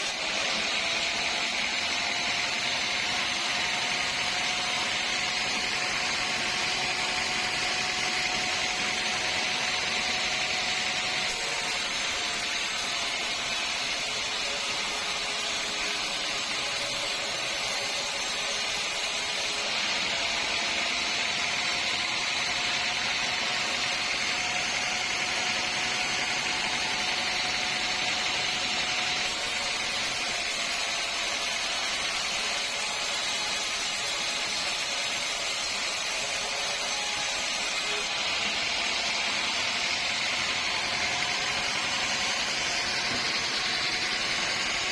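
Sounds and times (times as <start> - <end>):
sawmill machinery whine: 0.0 - 44.9.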